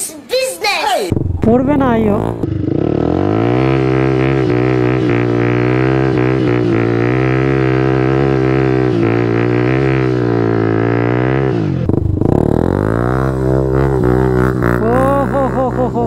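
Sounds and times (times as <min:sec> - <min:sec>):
motorcycle engine with loud exhaust: 0:01.1 - 0:16.0.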